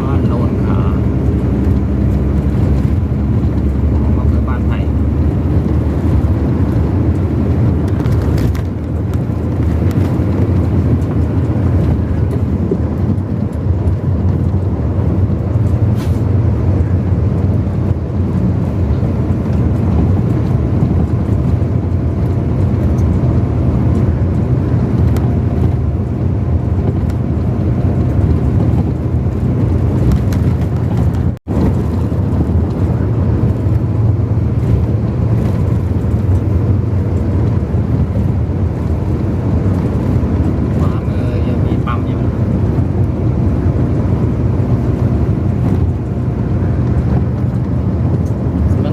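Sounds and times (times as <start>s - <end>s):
vehicle driving at speed: 0.0s - 48.9s.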